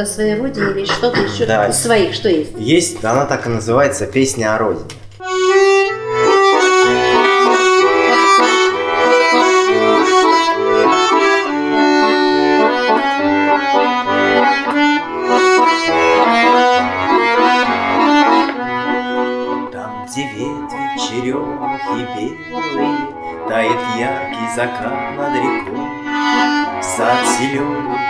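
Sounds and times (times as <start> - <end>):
button accordion melody: 0.0 - 3.1, 5.2 - 28.0.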